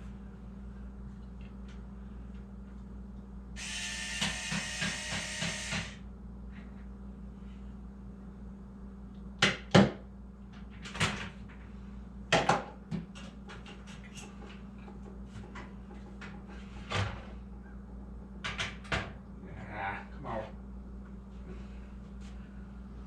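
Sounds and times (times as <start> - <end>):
steady low hum: 0.0 - 18.5, 19.1 - 23.0.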